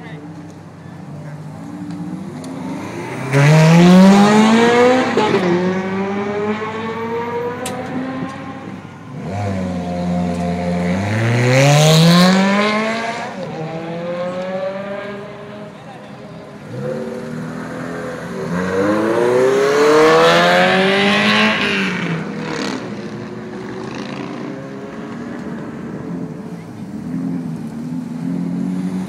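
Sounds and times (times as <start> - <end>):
sports car engines revving: 0.0 - 29.0.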